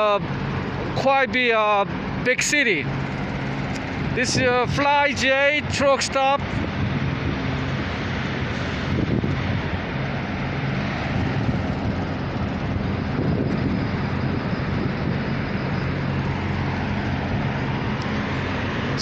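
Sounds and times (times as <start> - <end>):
truck engines idling: 0.0 - 19.0.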